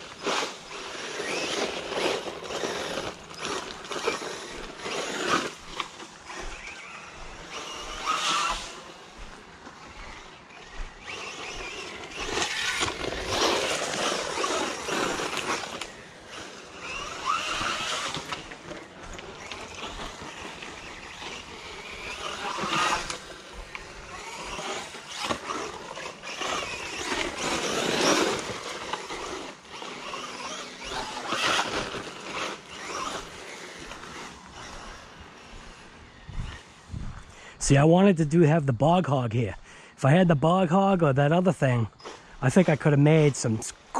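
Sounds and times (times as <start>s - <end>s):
rc car motor whining: 0.0s - 37.8s, 41.7s - 43.9s
tyres scrabbling on dirt: 0.0s - 38.1s, 40.1s - 43.9s.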